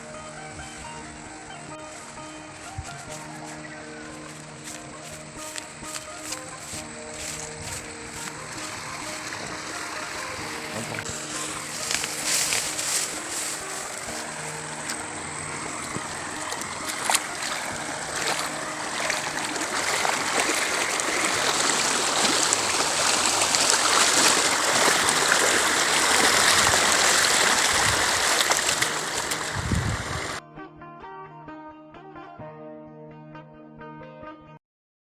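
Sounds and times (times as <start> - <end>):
rushing water: 0.0 - 30.4.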